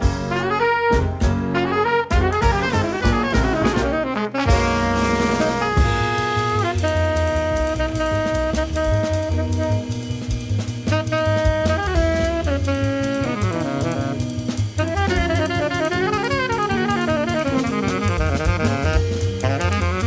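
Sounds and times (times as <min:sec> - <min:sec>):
drum kit: 0:00.0 - 0:20.0
upright bass: 0:00.0 - 0:20.0
tenor saxophone melody: 0:00.2 - 0:20.0.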